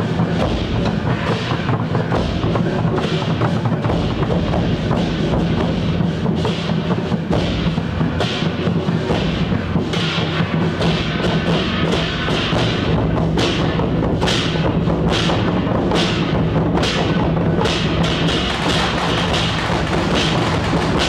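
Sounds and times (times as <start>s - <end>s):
drums playing fast rhythm: 0.0s - 21.0s.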